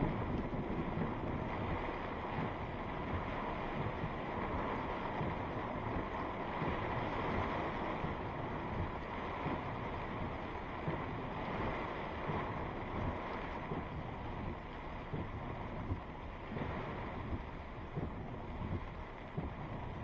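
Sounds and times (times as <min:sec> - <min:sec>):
heavy rain: 0:00.0 - 0:20.0
wind gusts rumbling on microphone: 0:00.0 - 0:20.0.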